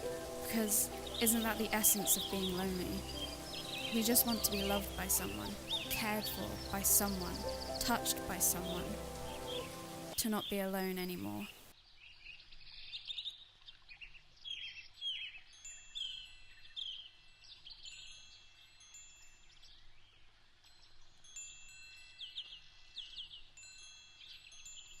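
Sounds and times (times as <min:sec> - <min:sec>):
faint wind chimes ringing: 0:00.0 - 0:10.3, 0:15.1 - 0:25.0
small birds chirping: 0:00.0 - 0:25.0.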